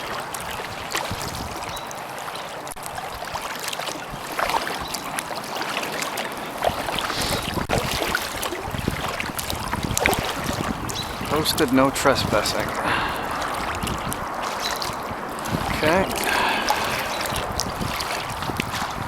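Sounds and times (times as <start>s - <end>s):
kayak paddle splashing water: 0.0s - 19.0s.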